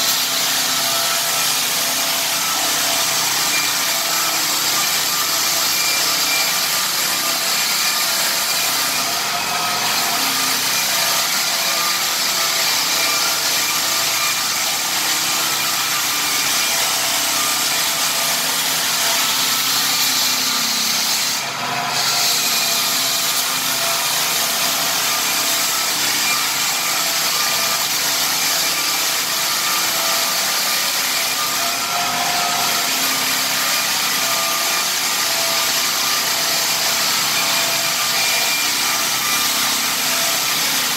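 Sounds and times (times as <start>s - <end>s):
drum sander sanding wood floor: 0.0s - 40.9s.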